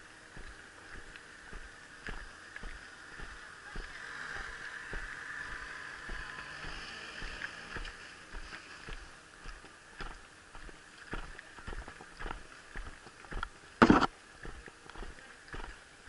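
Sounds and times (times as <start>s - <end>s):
footsteps walking: 0.0s - 15.8s.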